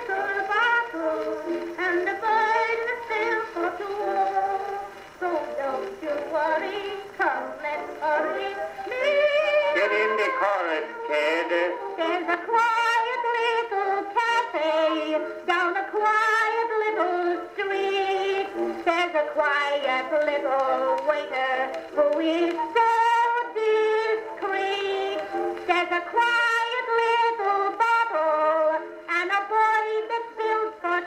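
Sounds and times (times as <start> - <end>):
vaudeville singing with band: 0.0 - 28.5.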